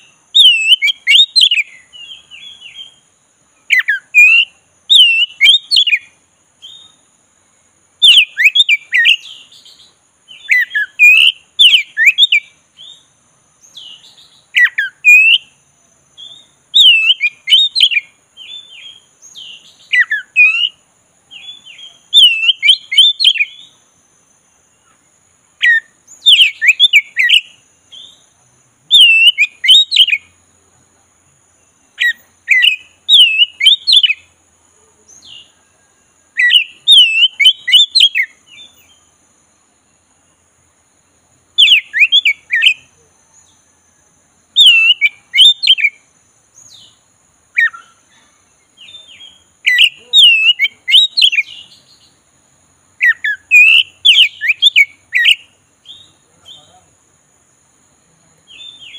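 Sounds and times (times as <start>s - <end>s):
songbird whistling song: 0.0s - 56.9s, 58.3s - 58.9s.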